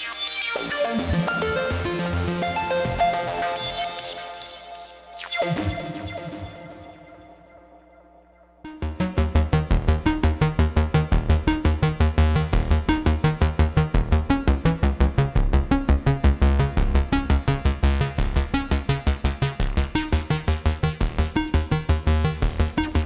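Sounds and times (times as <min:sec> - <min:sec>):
synthesizer bass line with chords: 0:00.0 - 0:07.7, 0:08.6 - 0:23.0.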